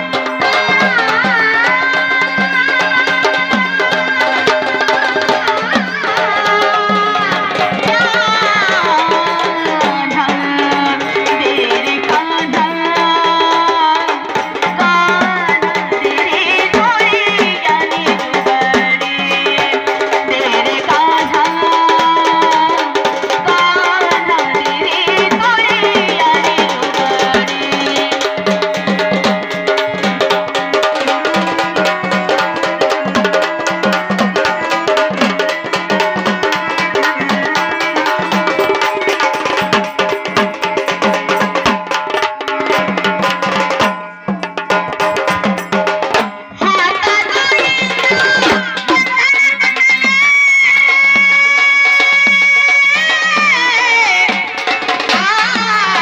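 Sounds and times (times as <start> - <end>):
folk song with hand drum: 0.0 - 56.0.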